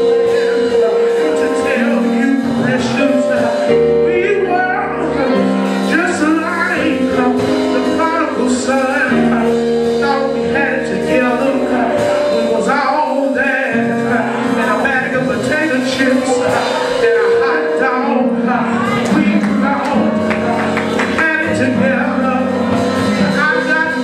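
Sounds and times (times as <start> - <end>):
held instrumental chords: 0.0 - 24.0.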